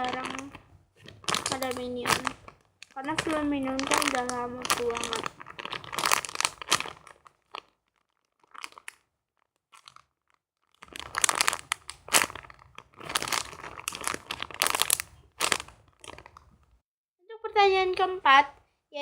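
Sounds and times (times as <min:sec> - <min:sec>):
plastic crinkling and crackling: 0:00.0 - 0:16.8.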